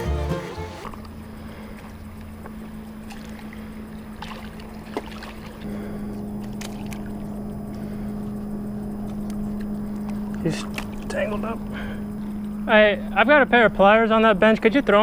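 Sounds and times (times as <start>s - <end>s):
boat motor droning: 0.0s - 15.0s.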